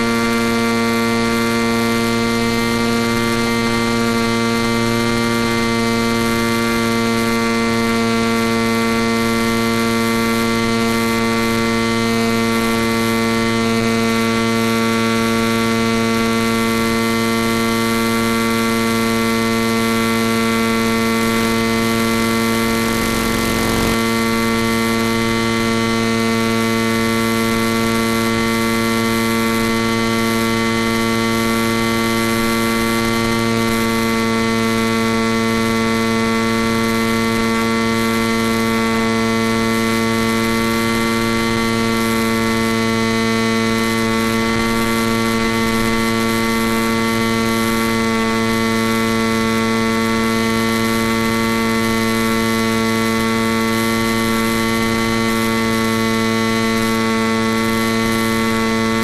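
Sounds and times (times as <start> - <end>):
electrical hum with buzz: 0.0 - 59.0.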